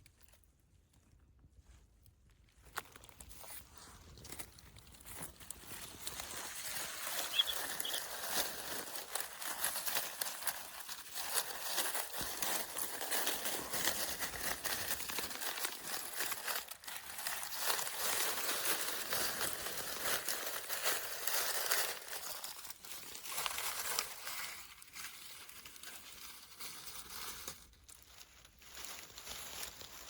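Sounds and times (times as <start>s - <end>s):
crinkling and rustling: 2.4s - 30.0s.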